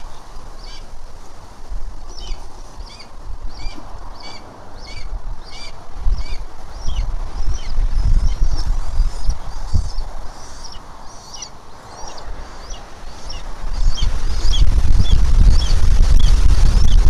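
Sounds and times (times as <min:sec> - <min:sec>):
low rumbling noise: 0:00.0 - 0:17.0
small birds chirping: 0:00.0 - 0:17.0.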